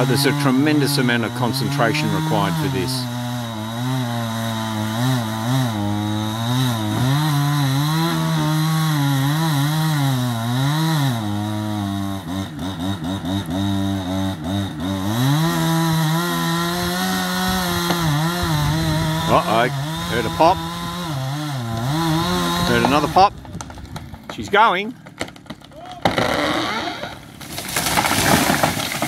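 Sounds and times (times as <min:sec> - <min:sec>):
chainsaw cutting tree trunk: 0:00.0 - 0:29.0.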